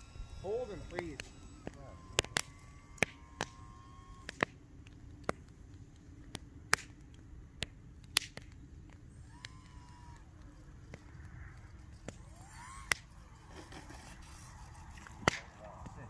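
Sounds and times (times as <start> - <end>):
sharp clicks: 0.0 - 13.2
faint whine rising and falling: 0.0 - 16.0.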